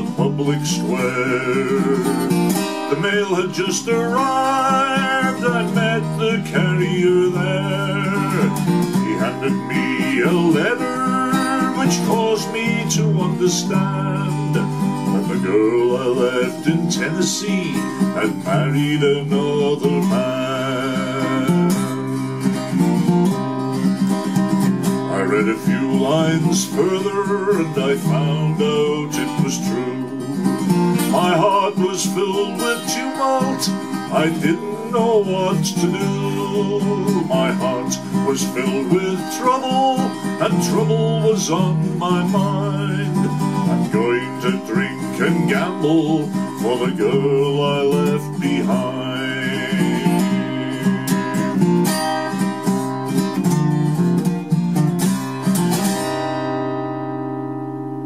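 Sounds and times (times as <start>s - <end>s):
acoustic guitar chords: 0.0s - 58.0s.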